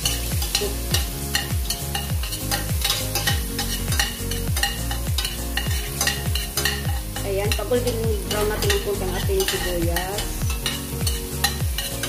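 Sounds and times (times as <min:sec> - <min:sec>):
background music with steady beat: 0:00.0 - 0:12.0
metal spoon scraping a pot: 0:00.0 - 0:12.0
onions and meatballs sizzling: 0:00.0 - 0:12.0.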